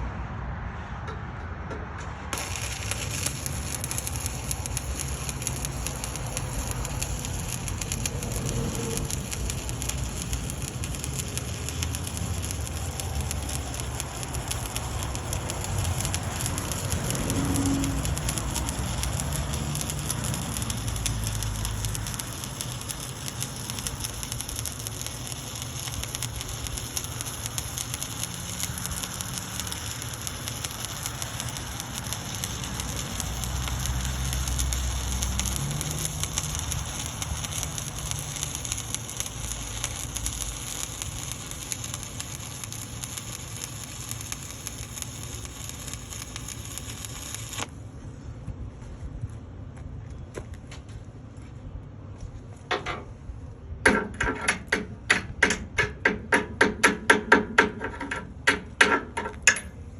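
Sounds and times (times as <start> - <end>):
welding arc crackling: 2.3 - 47.8, 53.8 - 59.7.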